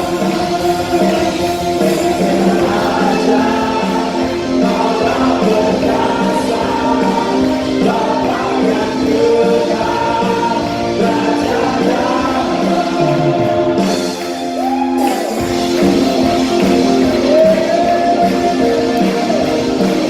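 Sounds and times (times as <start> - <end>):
band accompaniment: 0.0 - 20.0
children's choir singing: 0.0 - 20.0.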